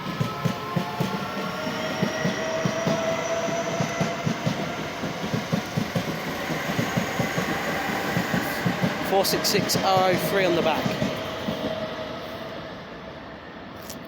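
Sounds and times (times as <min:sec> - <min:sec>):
train wheels clicking over rail joints: 0:00.0 - 0:11.8.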